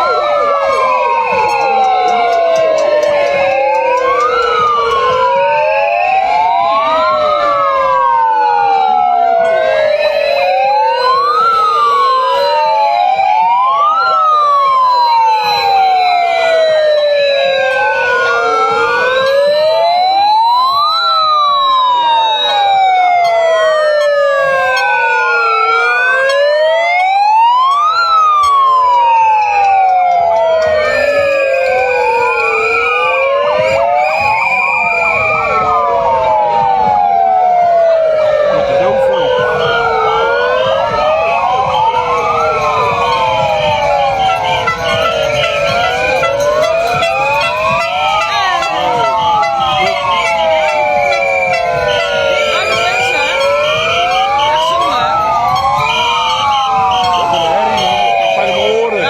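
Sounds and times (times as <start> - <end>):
sirens wailing: 0.0 - 59.0.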